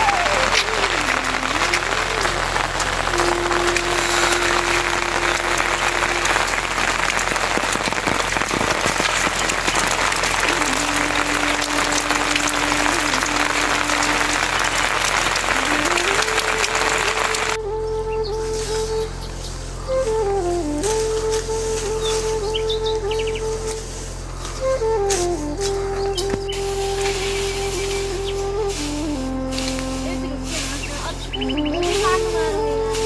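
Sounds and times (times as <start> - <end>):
heavy rain: 0.0 - 17.6, 19.9 - 33.0
slow flute melody: 0.0 - 33.0.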